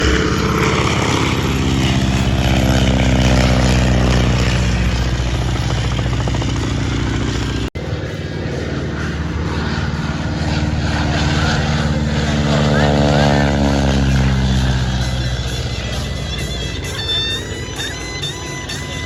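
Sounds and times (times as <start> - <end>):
biplane engine passing by: 0.0 - 19.0.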